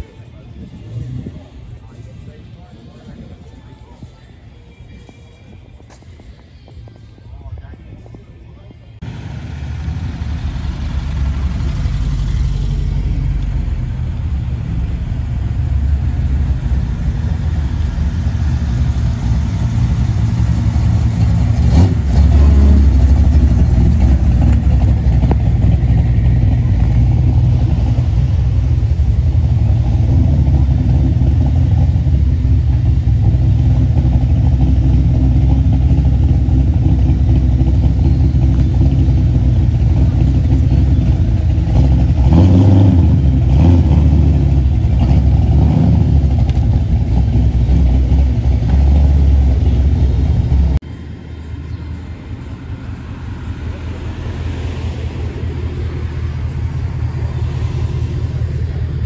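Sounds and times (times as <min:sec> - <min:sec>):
car engine running: 0:09.0 - 0:59.0.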